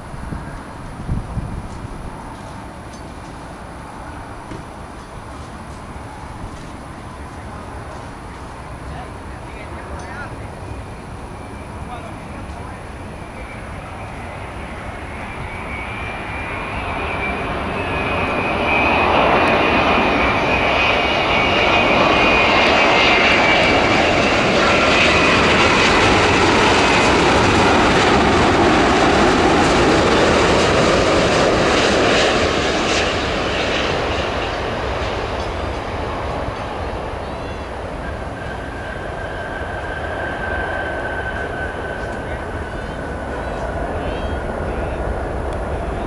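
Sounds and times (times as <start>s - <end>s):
high jet engine whine: 0.0s - 46.0s
jet engines roaring: 0.0s - 46.0s.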